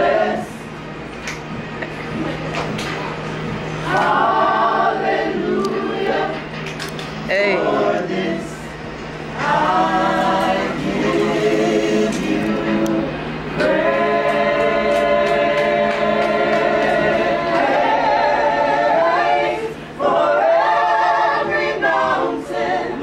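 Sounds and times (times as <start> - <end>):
choir singing a cappella: 0.0 - 0.8, 3.8 - 6.6, 7.2 - 23.0.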